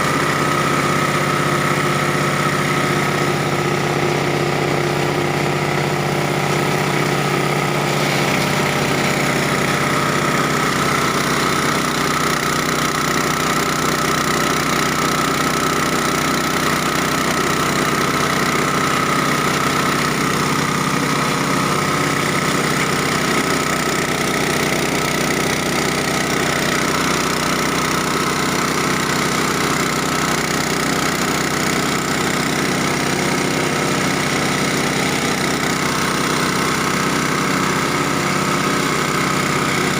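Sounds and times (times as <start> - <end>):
grinding machine engine running: 0.0 - 39.9.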